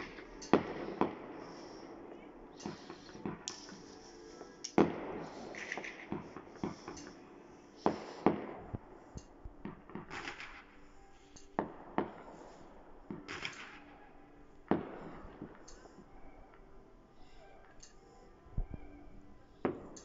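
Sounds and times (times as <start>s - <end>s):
hissing crackle of fireworks: 0.0s - 16.6s.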